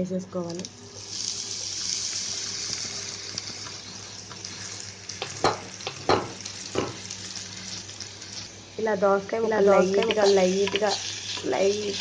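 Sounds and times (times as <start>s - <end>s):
vegetables sizzling in hot oil: 0.4s - 12.0s.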